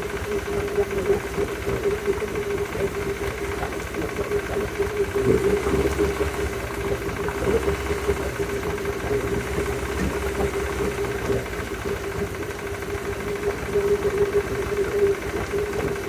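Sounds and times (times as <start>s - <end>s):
outboard motor idling with knock: 0.0s - 16.0s.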